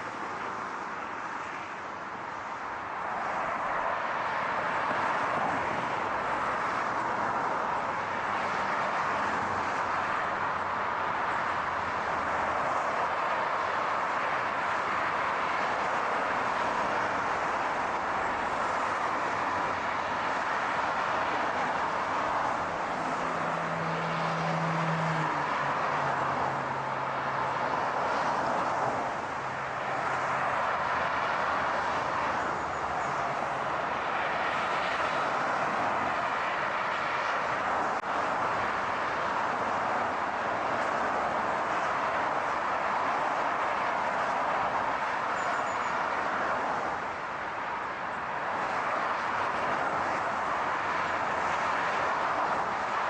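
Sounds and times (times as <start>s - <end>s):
car road noise: 0.0s - 53.0s.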